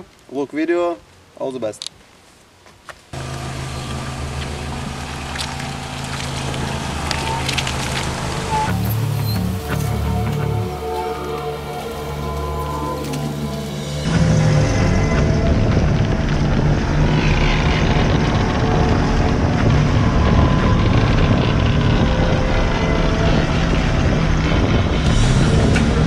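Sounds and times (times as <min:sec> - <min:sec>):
car driving on dirt track: 0:03.2 - 0:26.0
wind buffeting microphone: 0:03.9 - 0:26.0.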